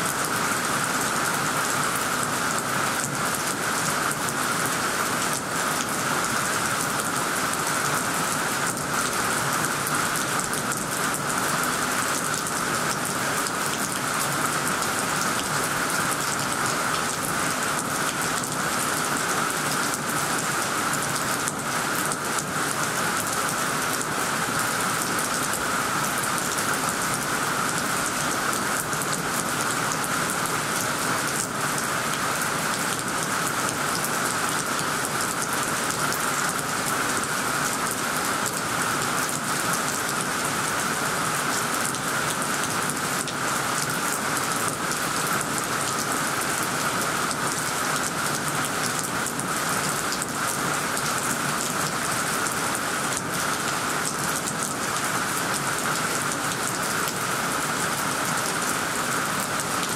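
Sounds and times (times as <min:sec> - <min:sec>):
heavy rain on tree foliage: 0:00.0 - 0:59.9.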